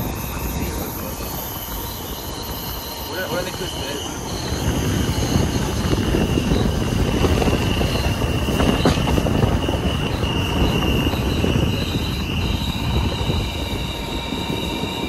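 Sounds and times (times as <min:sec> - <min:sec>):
high wheel squeal: 0:00.0 - 0:15.0
train wheels rumbling on rail: 0:00.0 - 0:15.0.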